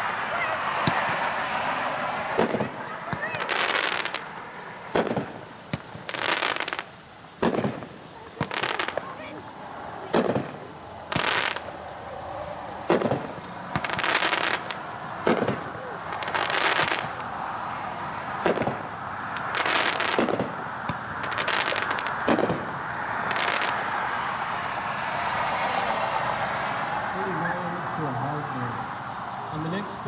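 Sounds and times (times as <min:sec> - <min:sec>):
firework bangs: 0:00.0 - 0:30.0
firework hissing and crackling: 0:00.0 - 0:30.0.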